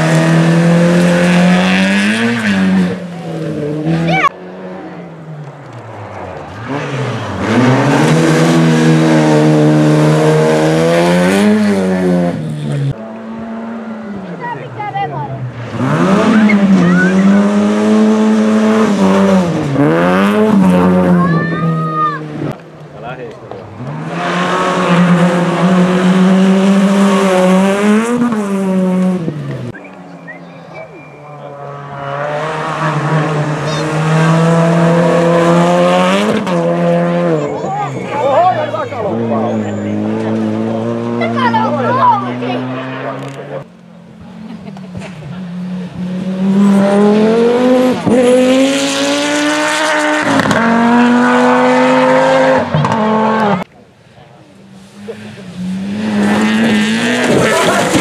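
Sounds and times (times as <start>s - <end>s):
rally car engine revving past: 6.0s - 14.4s, 15.4s - 22.6s, 23.7s - 29.8s, 31.4s - 43.7s, 44.4s - 53.7s, 54.8s - 58.0s.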